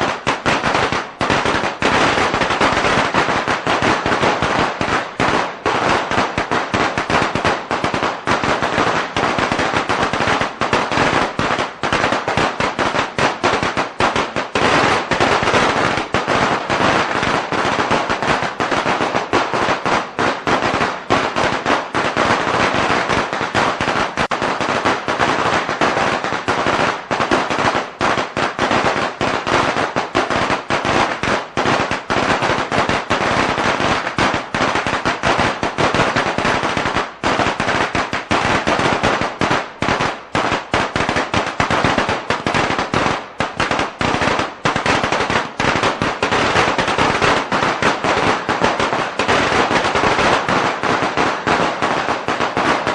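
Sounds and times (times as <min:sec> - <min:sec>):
firecrackers crackling: 0:00.0 - 0:52.9.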